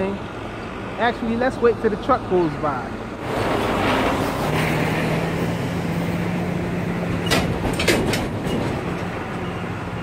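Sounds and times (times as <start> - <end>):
truck passing close by: 0.0 - 10.0.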